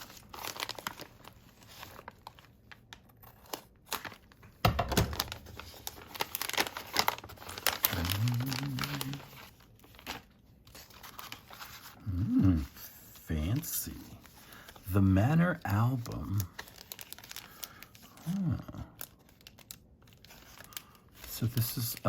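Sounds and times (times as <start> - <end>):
sticker packaging crinkling: 0.0 - 22.0.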